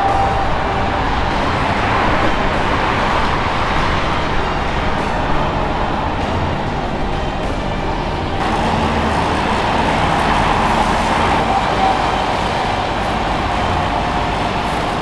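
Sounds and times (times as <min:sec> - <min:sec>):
motorway traffic hum: 0:00.0 - 0:15.0.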